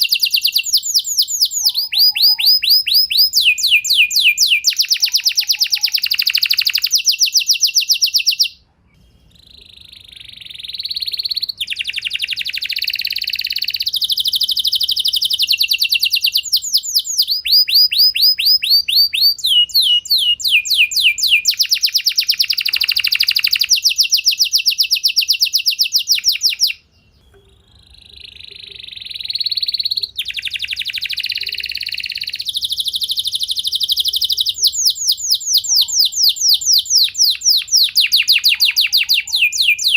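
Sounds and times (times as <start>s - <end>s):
canary singing trilled phrases: 0.0s - 39.9s.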